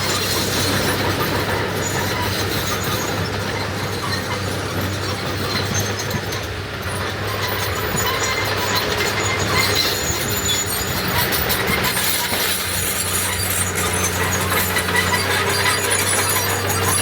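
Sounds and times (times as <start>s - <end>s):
heavy diesel machinery running: 0.0s - 17.0s
high metallic squeaks and clinks: 0.1s - 17.0s.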